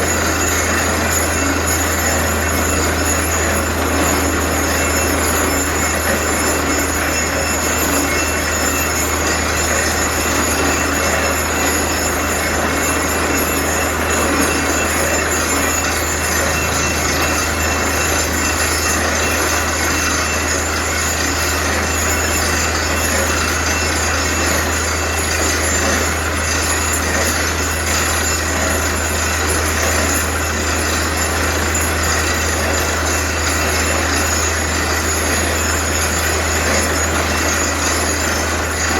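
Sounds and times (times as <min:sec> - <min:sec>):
drilling rig running: 0:00.0 - 0:38.9.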